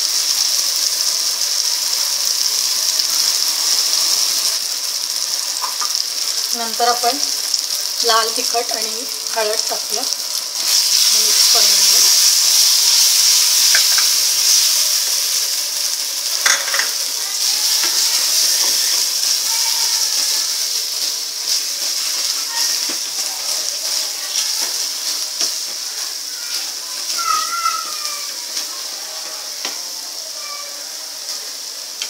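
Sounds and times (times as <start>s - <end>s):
masala sizzling in oil: 0.0s - 32.0s.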